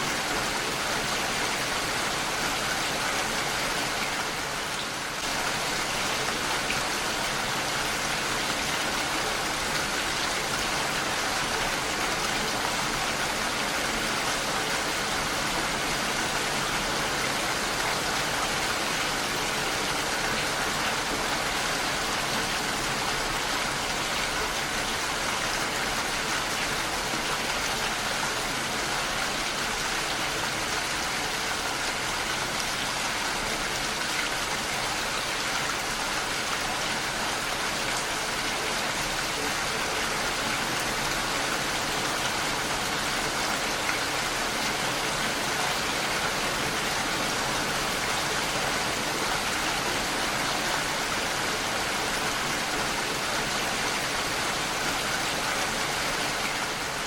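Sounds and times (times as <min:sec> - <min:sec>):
heavy rain on a window: 0:00.0 - 0:57.0.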